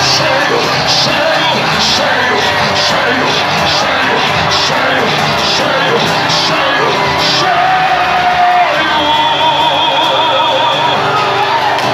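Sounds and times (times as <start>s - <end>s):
congregation crying out and singing: 0.0s - 11.9s
loud worship music: 0.0s - 11.9s.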